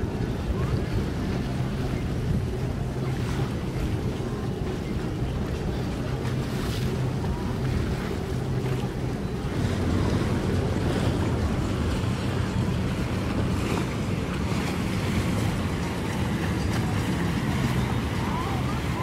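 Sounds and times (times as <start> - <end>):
boat engines humming: 0.0 - 19.0
water washing: 0.0 - 19.0
wind buffeting microphone: 0.0 - 19.0.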